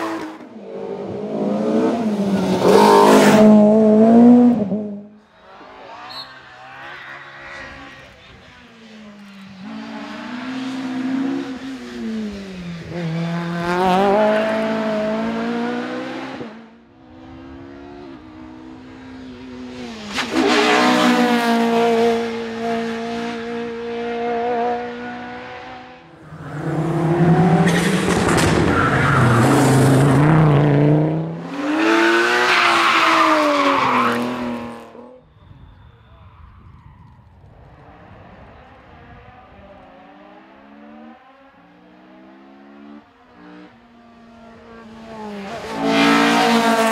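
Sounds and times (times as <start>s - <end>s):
rally cars passing at speed: 0.0s - 46.9s.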